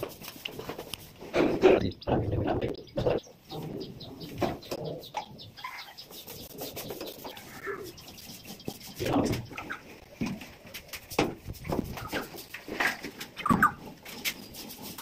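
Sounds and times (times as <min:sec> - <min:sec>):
birds calling: 0:00.6 - 0:15.0.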